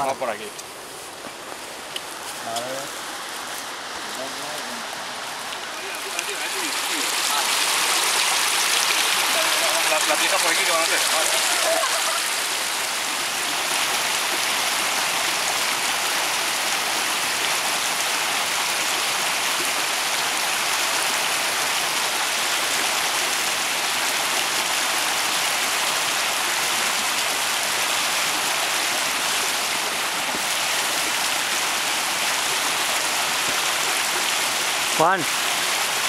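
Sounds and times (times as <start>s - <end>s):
stream running over rocks: 0.0s - 36.0s.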